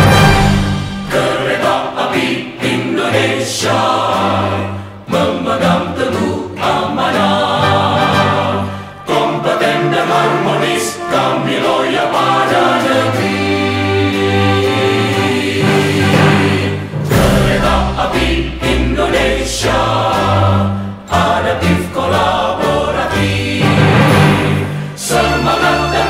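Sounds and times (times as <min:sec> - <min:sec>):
choir singing a march: 0:00.0 - 0:26.0.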